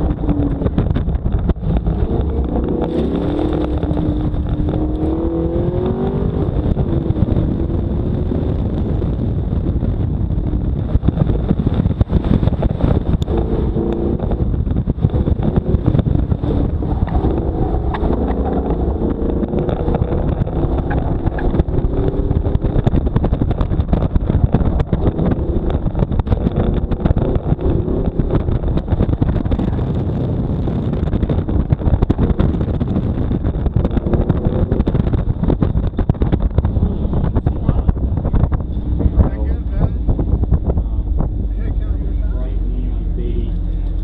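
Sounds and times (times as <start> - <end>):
car engine revving: 0.0 - 44.0
wind buffeting microphone: 0.0 - 44.0.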